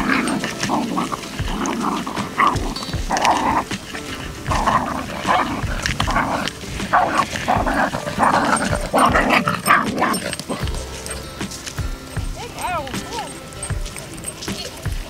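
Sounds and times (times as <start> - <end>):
dog making rough sounds: 0.0 - 12.4.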